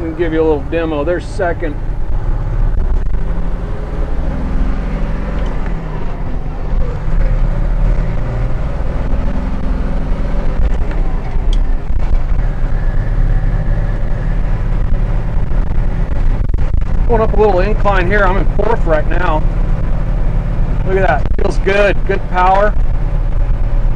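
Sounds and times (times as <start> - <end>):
bus diesel engine accelerating: 0.0 - 23.9.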